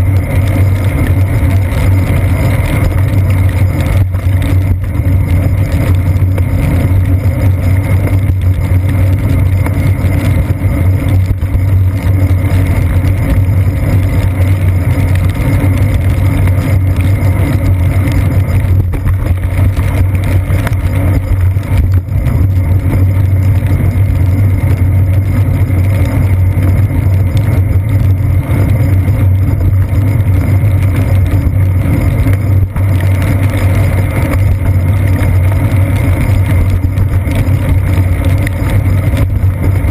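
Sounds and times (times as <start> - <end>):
bicycle rumbling over wet pavement: 0.0 - 39.9
wind noise: 0.0 - 39.9.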